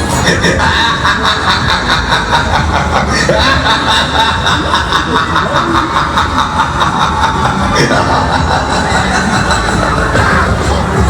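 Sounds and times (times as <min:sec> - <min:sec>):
riders laughing: 0:00.0 - 0:11.0.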